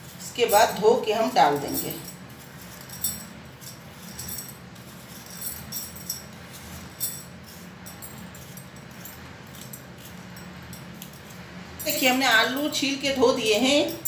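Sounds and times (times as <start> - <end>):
bangles jingling: 0.0 - 14.0.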